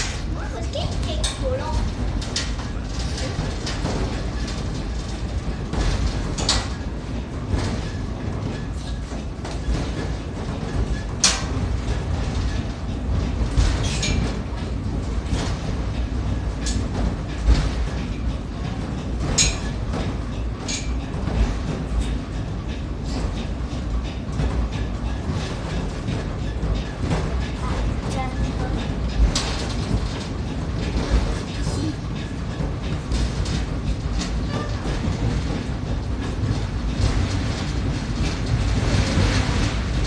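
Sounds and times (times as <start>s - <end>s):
funicular car rumbling on rails: 0.0s - 40.0s
rail clicks and clacks: 0.0s - 40.0s.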